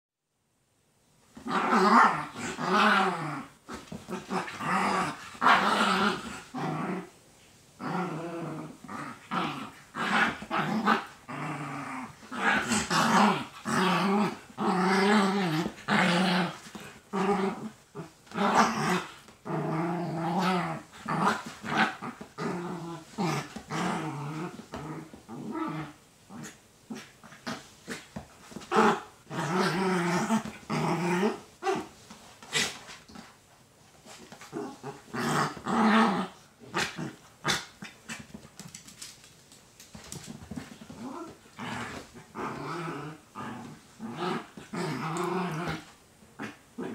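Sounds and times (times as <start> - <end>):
small dogs growling: 1.4 - 7.1, 7.8 - 31.9, 34.1 - 39.0, 40.0 - 46.9.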